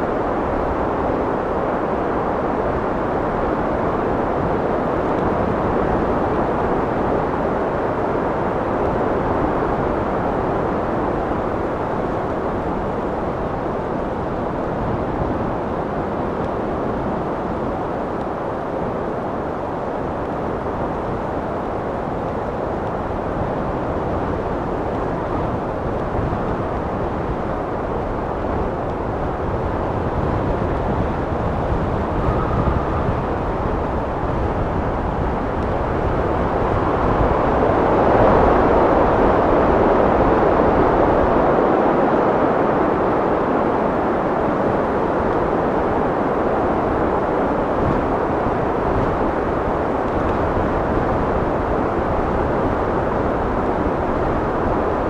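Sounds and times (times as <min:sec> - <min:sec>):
wind blowing: 0:05.3 - 0:55.0.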